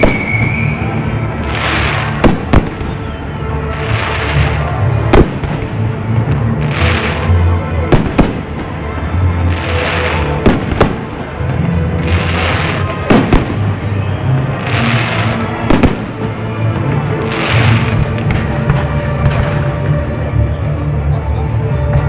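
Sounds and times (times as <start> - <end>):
fireworks bursting in sharp bangs: 0.0 - 8.8, 9.4 - 16.4, 17.2 - 19.9
music with low bass: 0.8 - 22.0.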